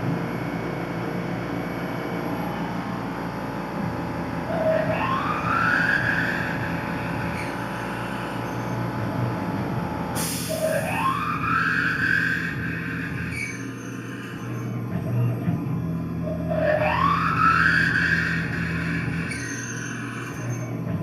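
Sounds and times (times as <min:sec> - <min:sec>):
machine running: 0:00.0 - 0:21.0
mill spindle whine spinning up: 0:00.0 - 0:21.0.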